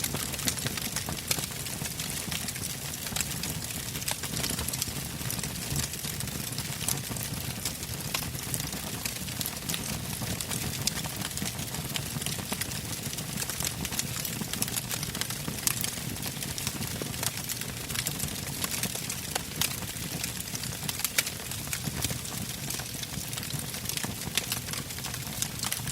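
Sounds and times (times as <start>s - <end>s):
campfire crackling and popping: 0.0s - 25.9s.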